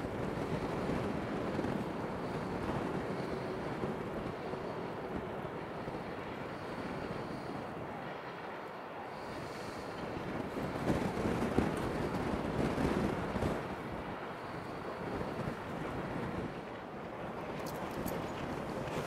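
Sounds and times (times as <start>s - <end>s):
wind blowing on microphone: 0.0s - 19.0s.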